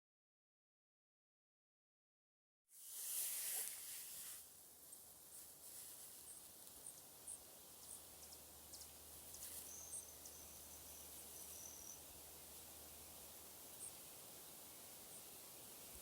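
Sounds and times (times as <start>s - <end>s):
soft hiss: 2.7s - 16.0s.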